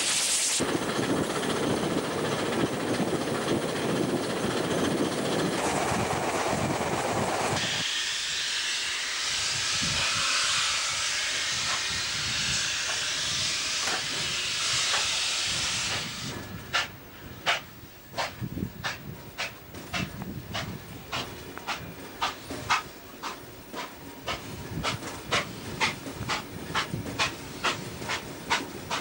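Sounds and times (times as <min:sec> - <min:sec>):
steam hiss: 0:00.0 - 0:01.1, 0:04.8 - 0:29.0
train wheels and air rushing: 0:00.0 - 0:29.0.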